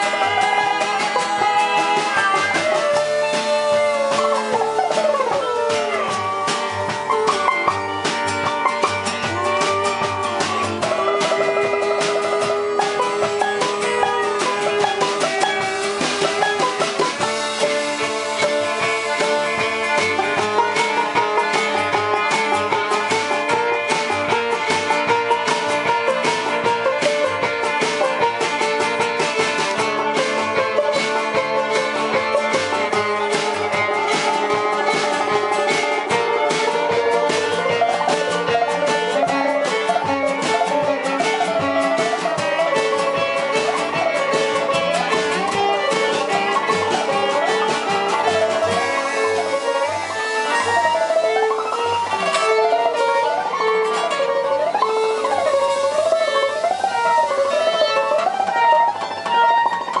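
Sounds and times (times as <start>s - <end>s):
sliding melody: 0.0s - 60.0s
strummed guitar: 0.0s - 60.0s
upright bass: 0.0s - 60.0s
violin: 0.0s - 60.0s.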